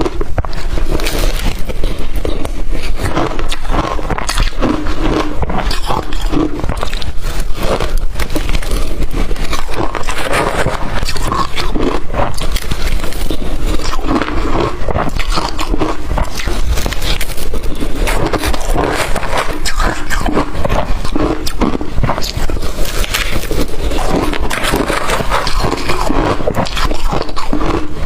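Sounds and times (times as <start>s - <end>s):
person chewing crushed ice: 0.0s - 28.0s.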